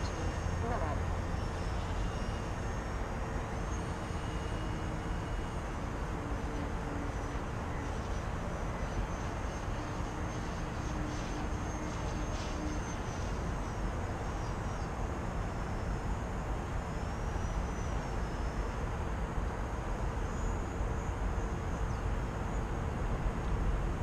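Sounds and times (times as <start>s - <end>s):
model plane motor whine: 0.0s - 24.0s.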